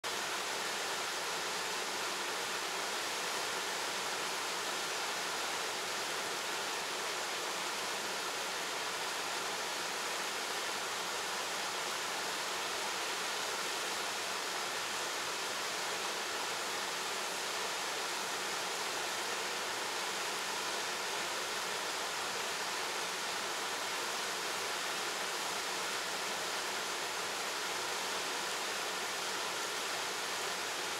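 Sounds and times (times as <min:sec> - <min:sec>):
small waterfall rushing: 0:00.0 - 0:30.9.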